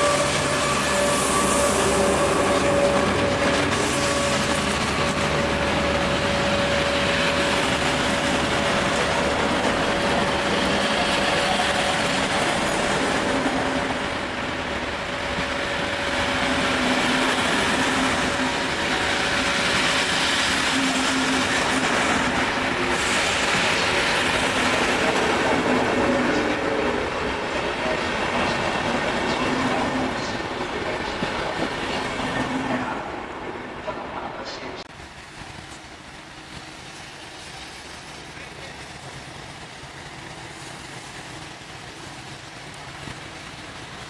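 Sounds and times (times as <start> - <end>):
train coaches rumbling on rails: 0.0 - 44.0.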